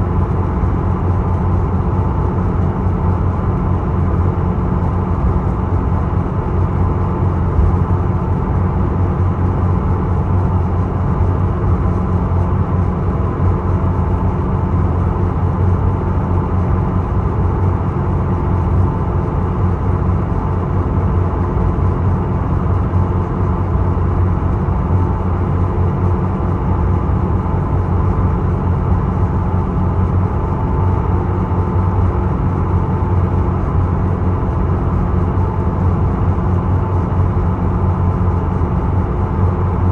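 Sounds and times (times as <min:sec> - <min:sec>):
ship engine low drone: 0:00.0 - 0:39.9.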